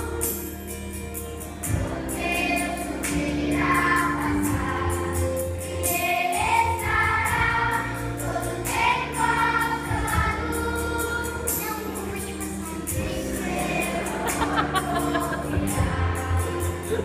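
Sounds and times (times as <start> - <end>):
instrumental accompaniment with bass: 0.0 - 17.0
children's choir singing: 1.7 - 17.0.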